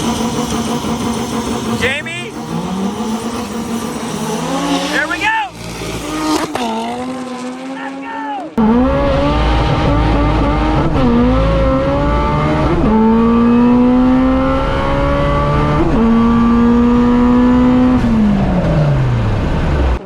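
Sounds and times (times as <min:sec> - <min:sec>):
race car engine at full throttle: 0:00.0 - 0:20.0.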